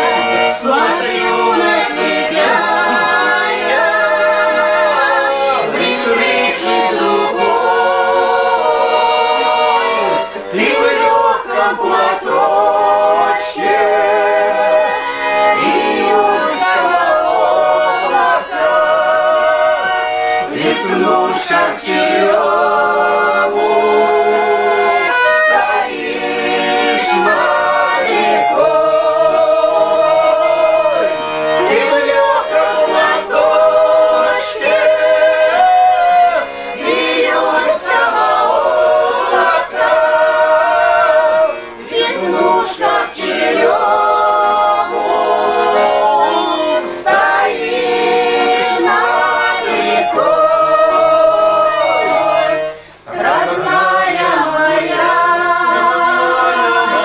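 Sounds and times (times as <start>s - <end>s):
group singing together: 0.0s - 57.0s.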